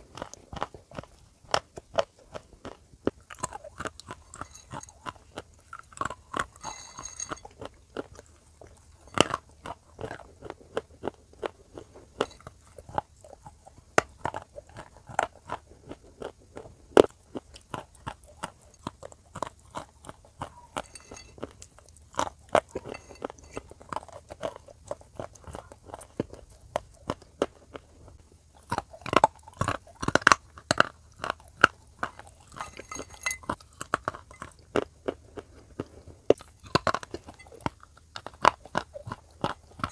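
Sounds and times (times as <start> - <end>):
clay being crunched and chewed: 0.0 - 39.9.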